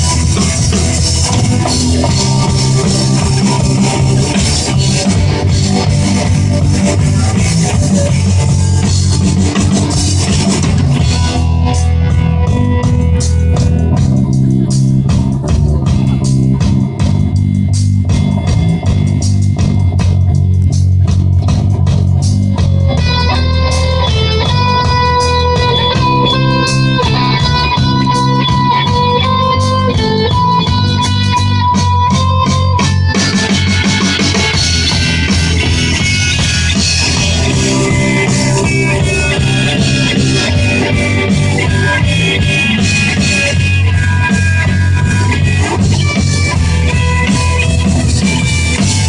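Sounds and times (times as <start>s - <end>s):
instrumental rock music: 0.0s - 49.0s.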